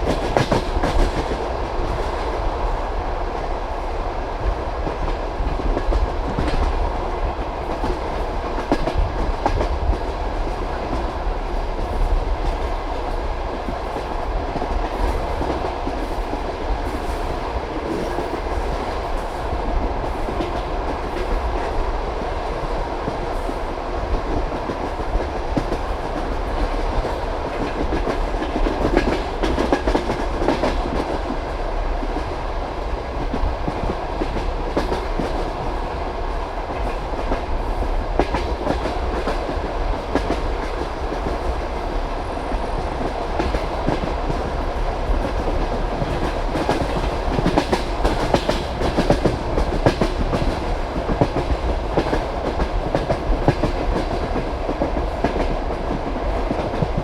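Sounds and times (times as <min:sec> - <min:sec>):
train wheels clacking: 0:00.0 - 0:03.5, 0:04.4 - 0:36.1, 0:36.7 - 0:57.0
train rolling rumble: 0:00.0 - 0:57.0.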